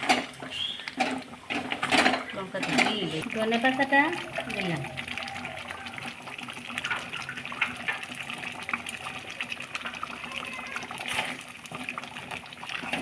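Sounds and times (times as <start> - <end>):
wooden spoon stirring: 0.1 - 13.0
curry bubbling in a pan: 0.2 - 13.0.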